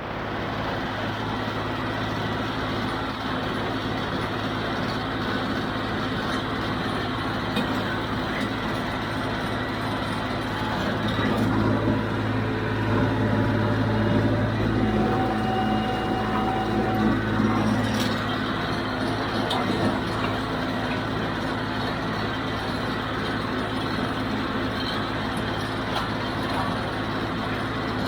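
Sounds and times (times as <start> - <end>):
diesel tractor engine running: 0.0 - 28.0.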